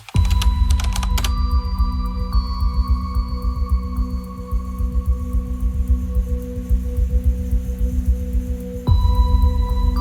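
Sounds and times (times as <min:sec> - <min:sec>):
low pulsing beat: 0:00.1 - 0:10.0.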